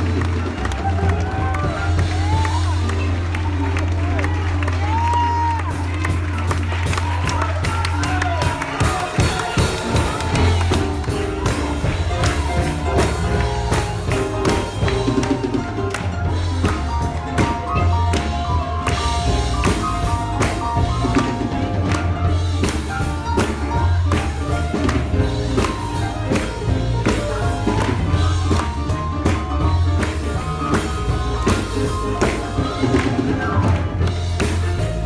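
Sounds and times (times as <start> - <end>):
gospel church band playing: 0.0 - 35.0.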